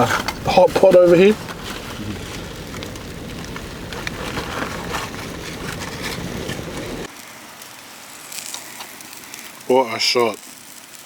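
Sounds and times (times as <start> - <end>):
scallop sizzling in a pot: 0.0 - 11.0.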